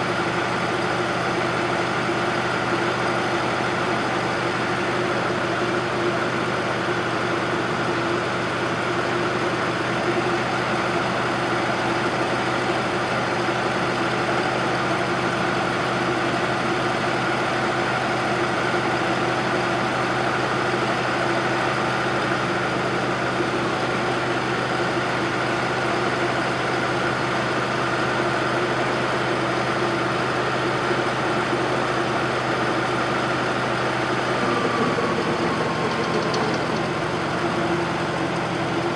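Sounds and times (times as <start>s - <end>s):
loader engine running: 0.0s - 38.9s.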